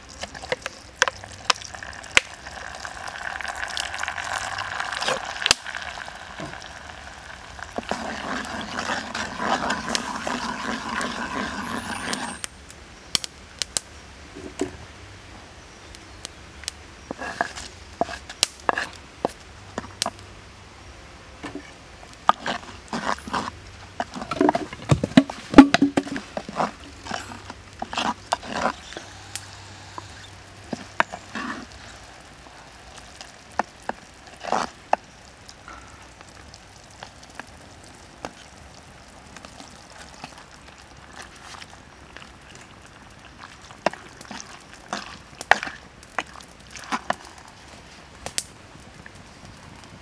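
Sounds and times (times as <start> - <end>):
wooden spoon stirring in clay pot: 0.0 - 12.5, 17.0 - 20.2, 21.4 - 38.6, 39.2 - 48.0
stew simmering: 0.0 - 13.3, 16.0 - 20.3, 21.4 - 50.0.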